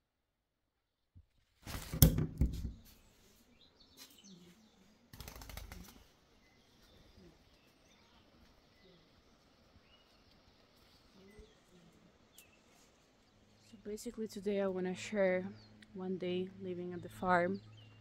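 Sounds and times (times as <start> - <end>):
faint birds chirping: 2.6 - 18.0.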